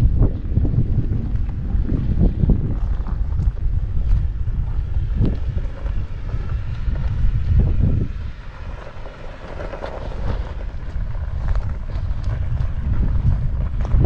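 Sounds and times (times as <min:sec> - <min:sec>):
vehicle crawling over rocky trail: 0:00.0 - 0:14.0
wind buffeting microphone: 0:00.0 - 0:14.0.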